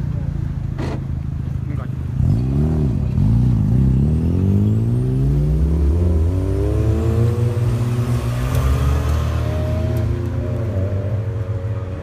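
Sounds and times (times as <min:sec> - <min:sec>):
low drone of other engines: 0:00.0 - 0:12.0
sports car engine pulling away: 0:02.1 - 0:12.0.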